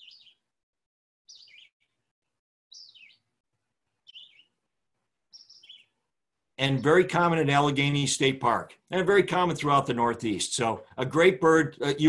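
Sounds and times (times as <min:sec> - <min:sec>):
recorded bird song: 0:00.0 - 0:00.5, 0:01.2 - 0:12.0.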